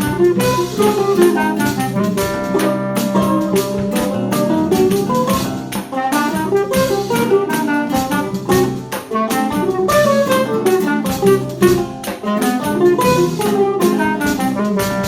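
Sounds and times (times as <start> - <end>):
acoustic guitars: 0.0 - 15.0
clarinet melody: 0.0 - 15.0
drum kit: 0.0 - 15.0
mandolin melody: 0.0 - 15.0
tambourine rhythm: 0.0 - 15.0
tuba bass: 0.0 - 15.0.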